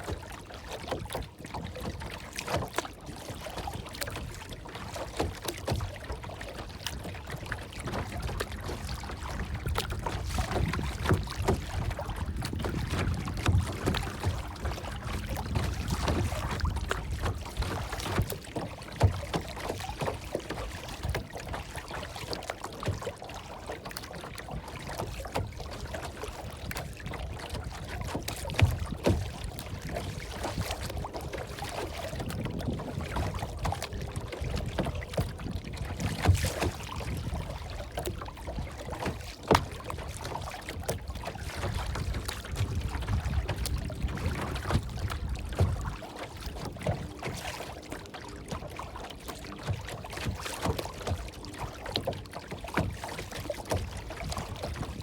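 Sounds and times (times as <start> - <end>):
water splashing and lapping: 0.0 - 55.0.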